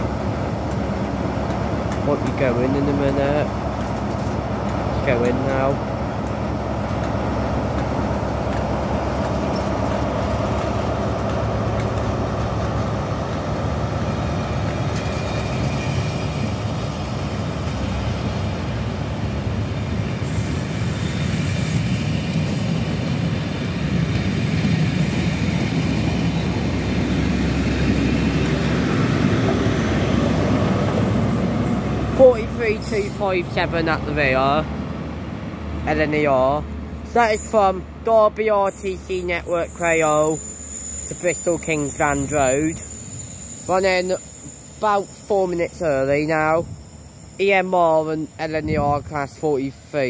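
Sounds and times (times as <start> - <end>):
diesel train engines working: 0.0 - 50.0
train coaches rolling on rails: 0.0 - 50.0.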